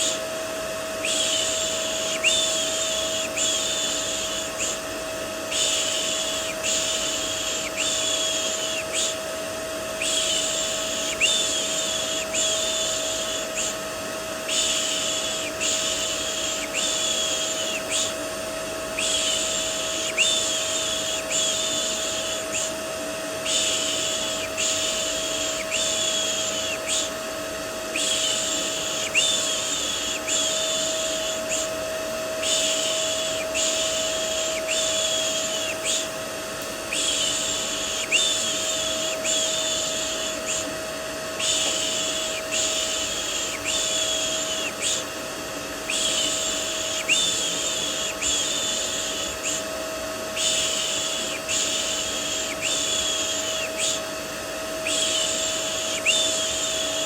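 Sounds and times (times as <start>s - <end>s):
vacuum cleaner motor hum: 0.0s - 57.0s.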